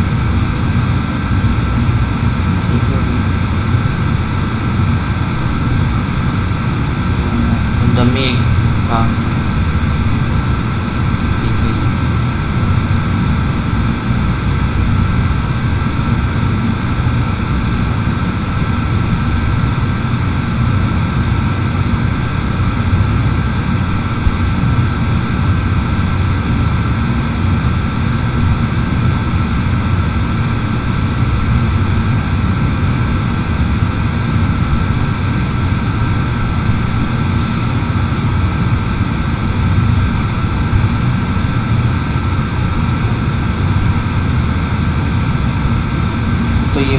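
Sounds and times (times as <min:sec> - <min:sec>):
machine drone with low rumble: 0:00.0 - 0:46.9.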